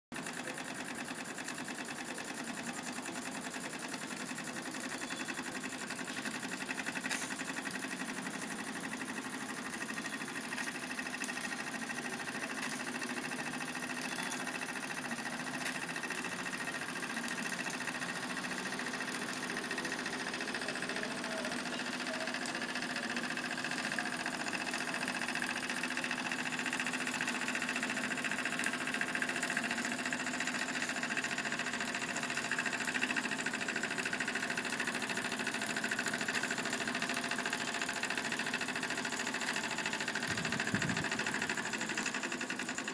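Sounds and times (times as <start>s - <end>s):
toy steam engine clatter: 0.2s - 42.9s.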